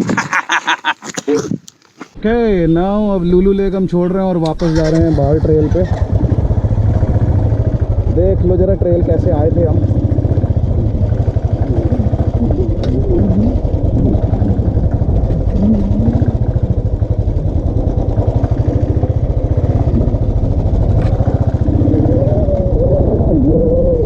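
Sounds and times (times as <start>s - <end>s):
motorcycle engine running at low speed: 4.7s - 24.0s.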